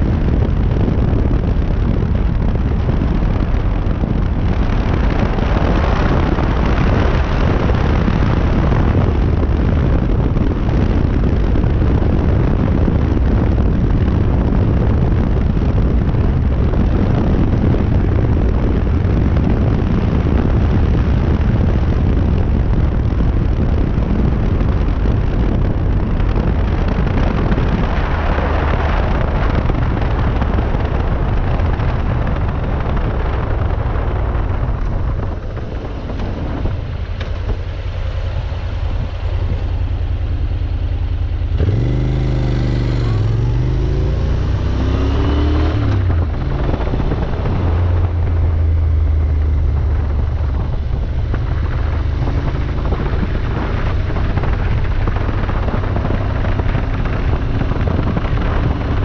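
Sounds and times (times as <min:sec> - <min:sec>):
motorcycle engine: 0:00.0 - 0:59.0
wind and road rush: 0:00.0 - 0:59.0.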